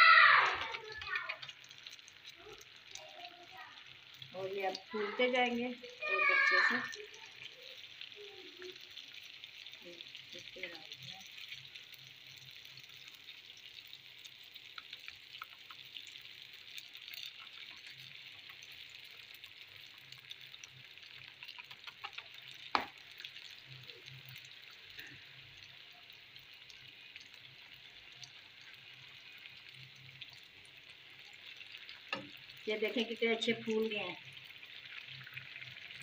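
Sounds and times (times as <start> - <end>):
doughnuts sizzling in oil: 0.0 - 36.0.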